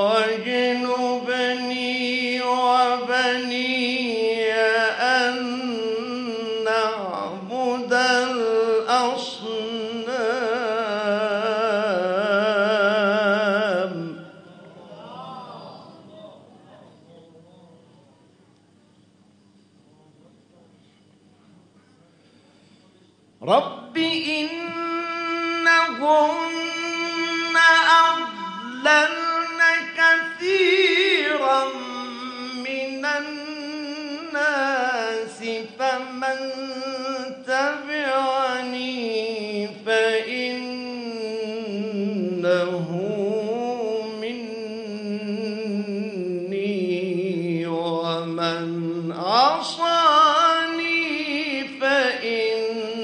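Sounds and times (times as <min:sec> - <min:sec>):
man reciting melodically: 0:00.0 - 0:18.0, 0:23.4 - 0:53.0.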